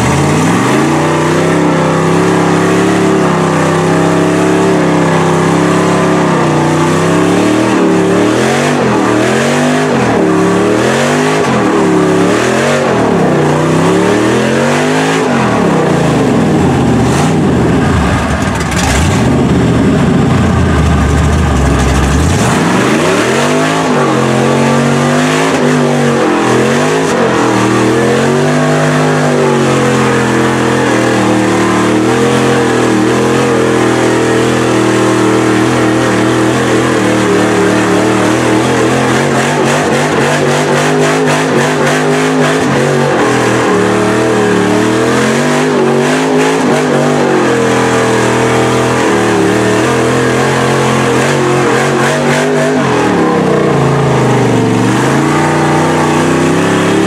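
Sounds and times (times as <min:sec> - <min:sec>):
truck churning through mud: 0:00.0 - 0:57.0
truck engine revving: 0:00.0 - 0:57.0.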